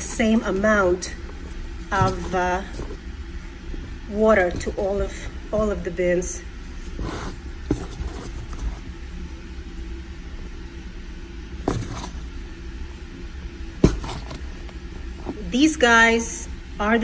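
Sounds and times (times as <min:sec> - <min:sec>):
hands rummaging through bedding: 0:00.0 - 0:12.6, 0:13.6 - 0:15.8
steady low rumble: 0:00.0 - 0:17.0.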